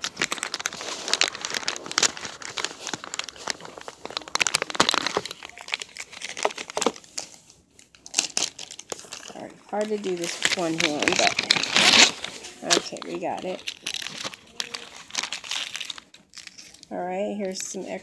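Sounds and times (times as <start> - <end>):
packaging crinkling: 0.0 - 17.5.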